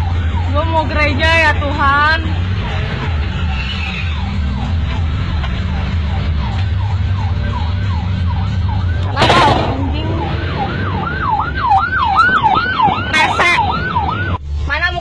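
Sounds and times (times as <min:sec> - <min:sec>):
siren yelping: 0:00.0 - 0:14.4
low vehicle engine rumble: 0:00.0 - 0:15.0.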